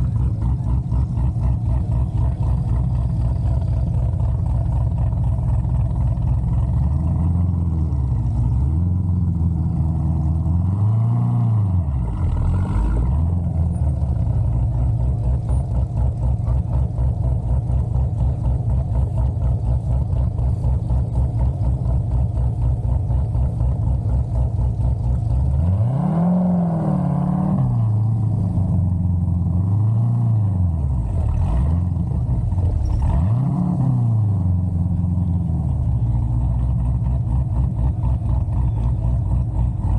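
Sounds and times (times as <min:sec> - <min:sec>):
car engine loping idle: 0:00.0 - 0:10.8, 0:11.6 - 0:26.0, 0:27.3 - 0:29.8, 0:30.4 - 0:39.9
car engine revving: 0:00.0 - 0:39.9.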